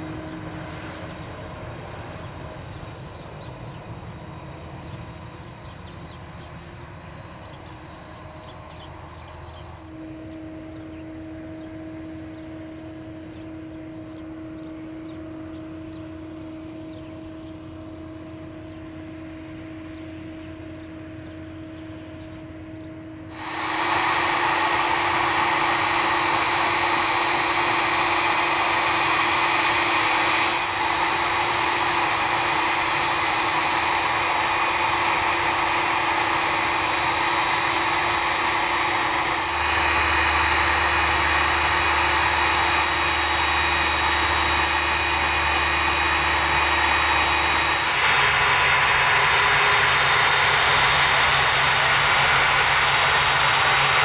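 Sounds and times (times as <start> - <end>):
jet engines running with whine: 0.0 - 54.0.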